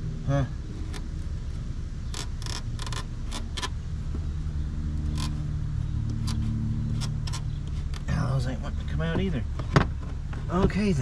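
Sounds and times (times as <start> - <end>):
low vehicle engine hum: 0.0 - 11.0.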